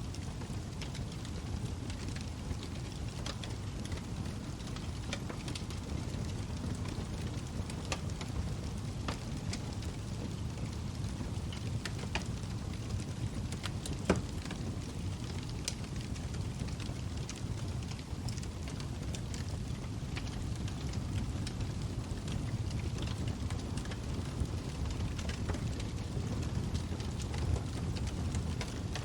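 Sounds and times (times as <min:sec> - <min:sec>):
log fire crackling and popping: 0:00.1 - 0:29.0.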